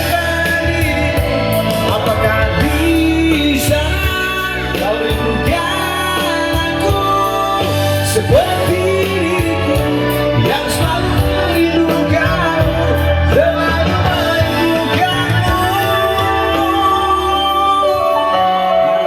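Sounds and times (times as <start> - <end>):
man singing: 0.0 - 19.0
musical accompaniment: 0.0 - 19.0.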